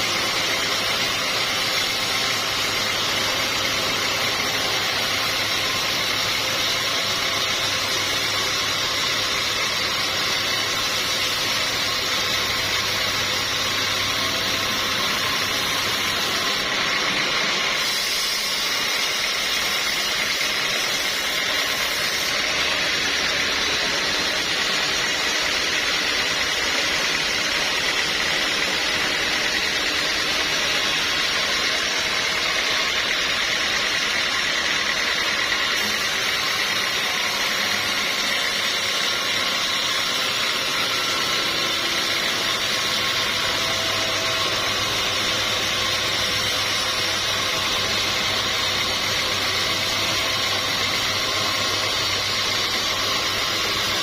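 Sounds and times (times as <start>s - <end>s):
high steady machine whine: 0.0s - 54.0s
sawmill machinery running: 0.0s - 54.0s.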